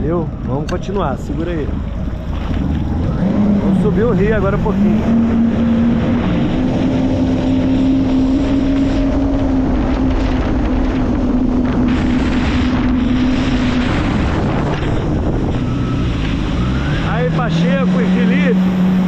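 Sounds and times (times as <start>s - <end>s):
jet ski engine running: 0.0s - 19.0s
water rushing: 0.0s - 19.0s
wind buffeting microphone: 0.0s - 19.0s.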